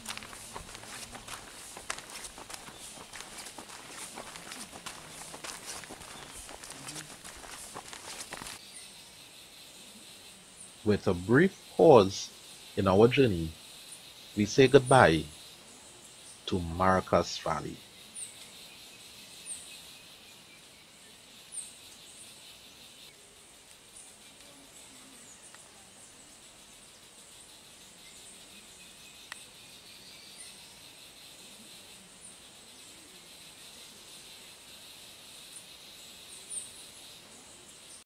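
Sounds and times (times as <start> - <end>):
high insect hiss: 0.0 - 38.0.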